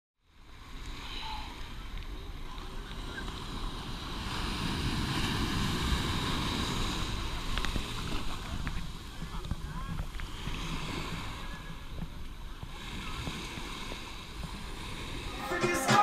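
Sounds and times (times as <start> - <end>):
surf washing in shallow water: 0.2 - 16.0.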